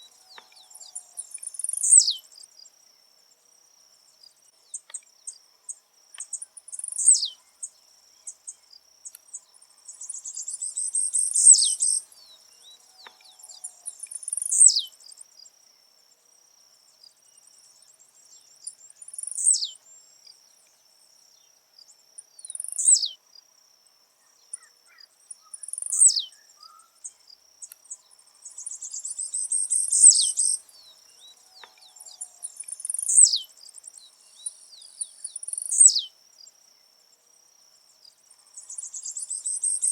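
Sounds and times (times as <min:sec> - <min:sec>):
bird singing: 0:00.0 - 0:03.1, 0:04.0 - 0:16.1, 0:16.9 - 0:23.5, 0:24.2 - 0:36.9, 0:37.9 - 0:39.9
high insect trill: 0:00.0 - 0:39.9.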